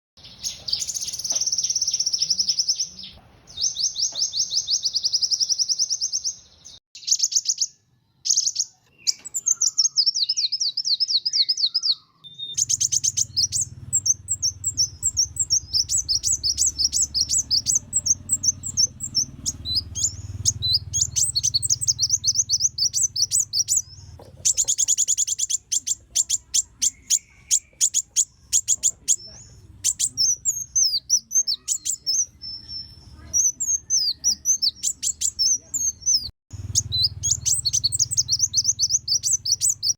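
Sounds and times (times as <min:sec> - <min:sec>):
bird trilling and chattering: 0:00.2 - 0:39.9.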